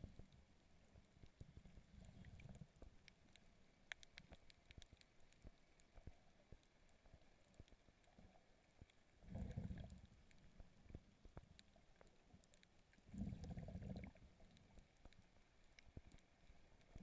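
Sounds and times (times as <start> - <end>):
faint clicks: 0.0 - 17.0.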